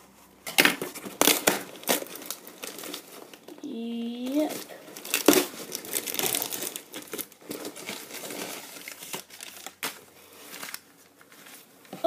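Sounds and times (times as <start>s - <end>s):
cardboard box rustling and crinkling: 0.8s - 3.4s, 4.3s - 11.7s.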